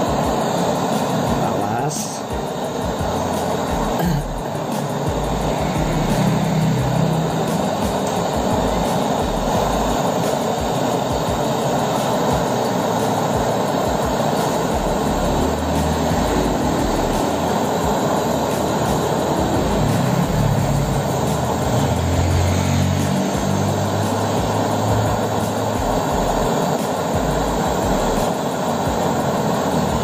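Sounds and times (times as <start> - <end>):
air rushing from a pipe: 0.0 - 30.0
gas torch flame hissing: 0.0 - 30.0.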